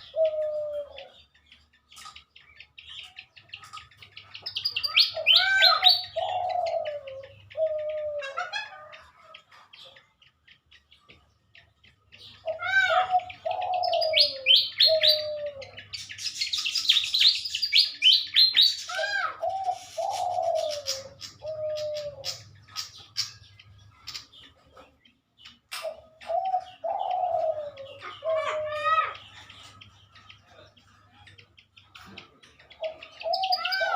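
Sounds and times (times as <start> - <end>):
high bird chirps: 0.0 - 33.9.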